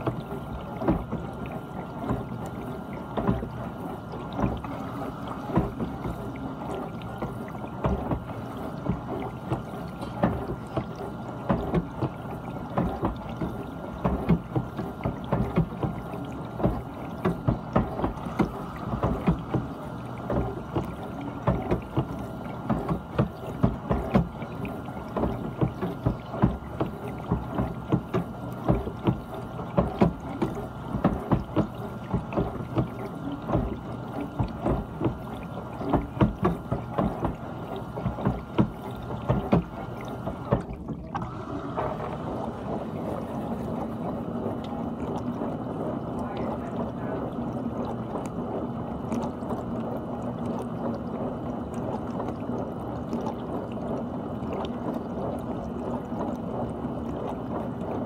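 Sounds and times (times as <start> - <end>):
dishwasher water splashing: 0.0 - 58.0
pump hum: 0.0 - 58.0.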